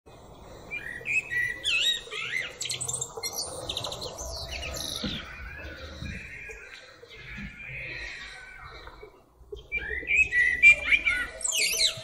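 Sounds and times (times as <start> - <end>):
blackbird singing: 0.3 - 12.0.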